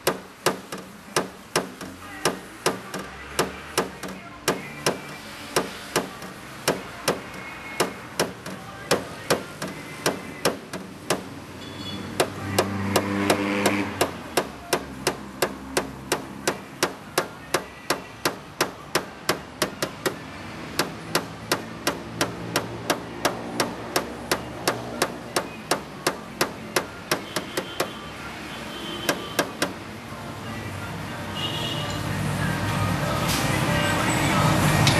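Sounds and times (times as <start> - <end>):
hammer tapping on car metal: 0.0 - 11.4, 12.1 - 28.0, 29.0 - 29.9.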